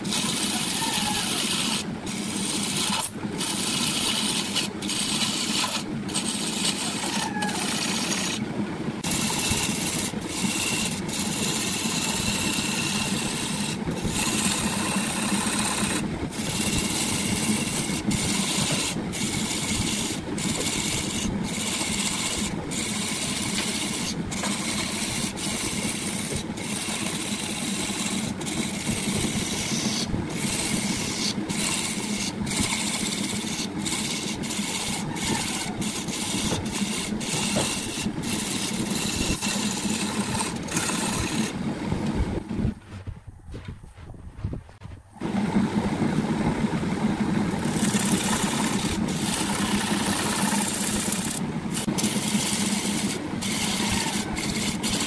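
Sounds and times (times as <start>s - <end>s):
wood lathe motor hum: 0.0s - 42.5s, 45.2s - 55.0s
tool scraping spinning wood: 0.0s - 55.0s.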